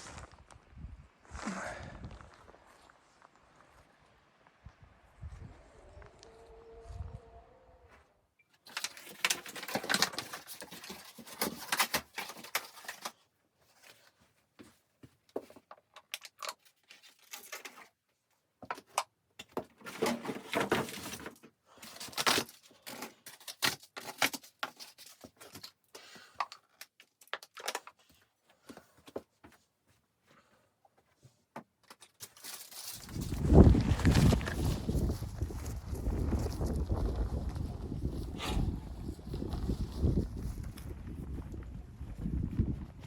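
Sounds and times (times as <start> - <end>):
rustling of handled objects: 7.9 - 43.0.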